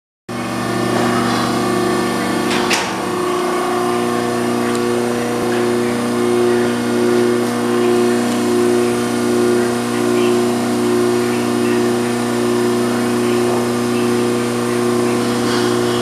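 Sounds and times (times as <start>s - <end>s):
electric motor humming: 0.3s - 16.0s.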